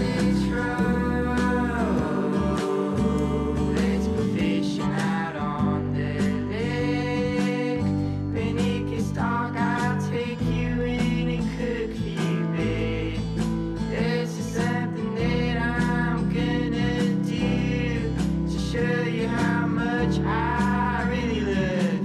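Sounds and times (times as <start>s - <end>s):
acoustic guitar song: 0.0s - 22.0s
bass line: 0.0s - 22.0s
person singing: 0.0s - 22.0s.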